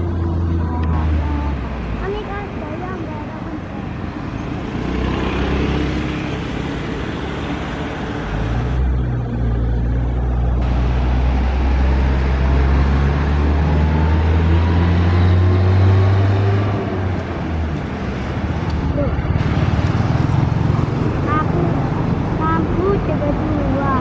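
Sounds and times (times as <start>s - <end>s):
bus diesel engine passing: 0.0s - 24.0s.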